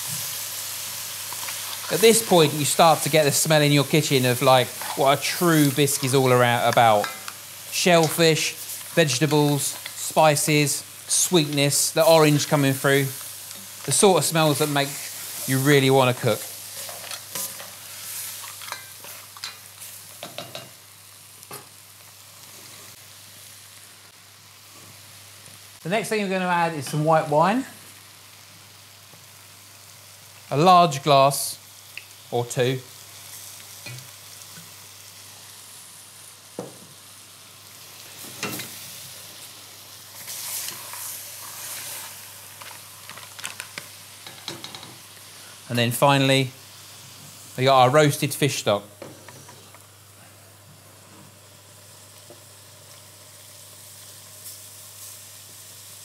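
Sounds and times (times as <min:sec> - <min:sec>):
food sizzling in pot: 0:00.0 - 0:56.0.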